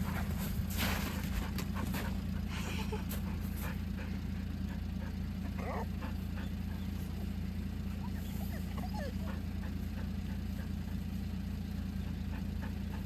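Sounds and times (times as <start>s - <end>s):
small truck engine idling: 0.0s - 13.0s.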